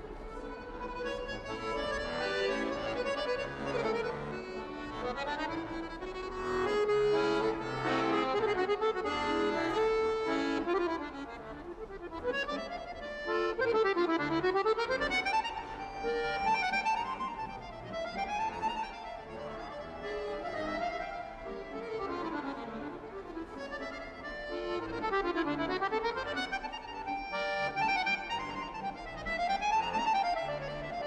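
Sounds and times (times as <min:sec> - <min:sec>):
accordion playing melody: 0:00.0 - 0:31.0.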